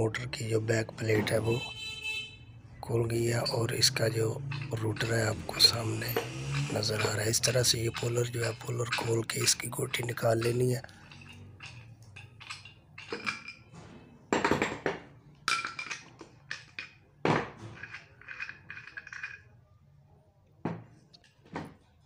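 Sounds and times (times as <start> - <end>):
metal parts clinking and clanking: 0.9 - 1.8, 2.8 - 19.6.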